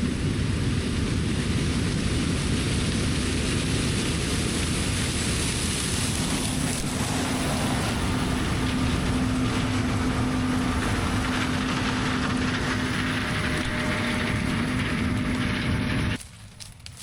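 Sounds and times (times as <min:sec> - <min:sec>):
heavy diesel machinery running: 0:00.0 - 0:16.3.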